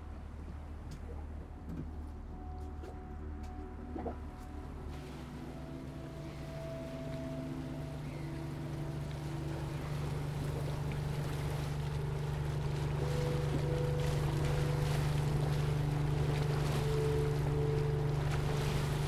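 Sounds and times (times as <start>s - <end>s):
boat engine droning: 0.0s - 19.0s
water noise: 0.0s - 19.0s
wind: 0.0s - 19.0s.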